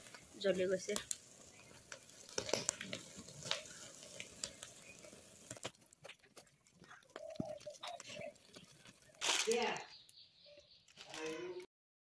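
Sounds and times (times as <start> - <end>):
fat sizzling over embers: 0.0 - 11.3
fat crackling and popping: 0.0 - 11.7.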